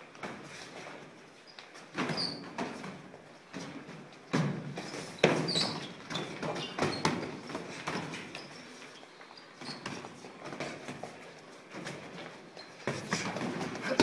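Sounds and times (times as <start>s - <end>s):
sneakers squeaking on gym floor: 0.2s - 14.0s.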